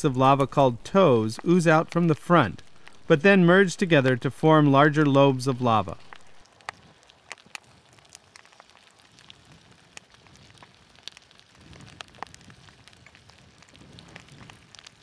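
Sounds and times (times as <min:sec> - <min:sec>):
lava crust crackling and ticking: 0:00.0 - 0:15.0.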